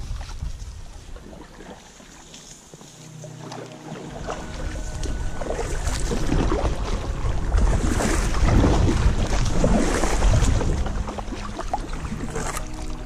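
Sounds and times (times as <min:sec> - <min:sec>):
wind rumble on microphone: 0:00.0 - 0:01.9, 0:04.2 - 0:13.0
reeds scraping along kayak: 0:00.0 - 0:13.0.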